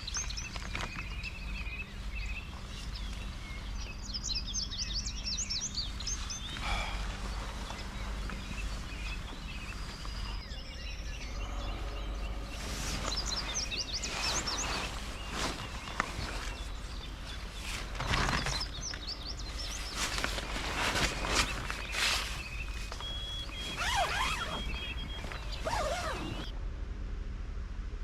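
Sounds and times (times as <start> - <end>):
small birds chirping: 0.0 - 26.5
steady low rumble: 0.0 - 28.0.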